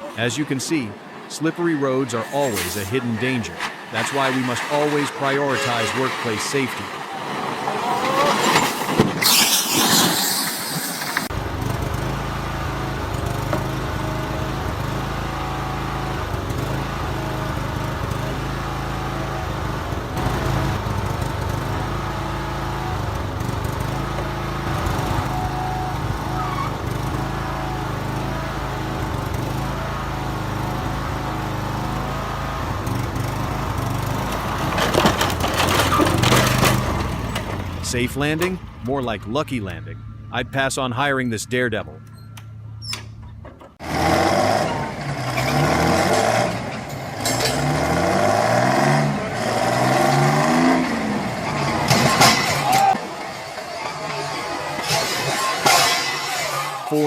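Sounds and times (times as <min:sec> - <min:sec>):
vehicle engine running: 0:11.1 - 0:57.0.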